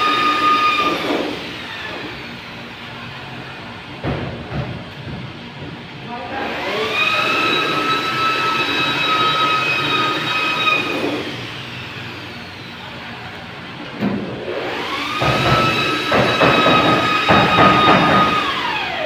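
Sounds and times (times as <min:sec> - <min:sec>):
power tool whining: 0:00.0 - 0:04.0, 0:06.3 - 0:19.0.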